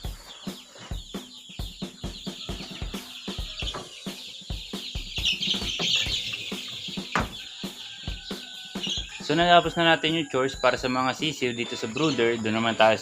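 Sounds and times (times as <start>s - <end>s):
background music with drum beat: 0.0s - 11.4s
chicks peeping: 0.0s - 13.0s.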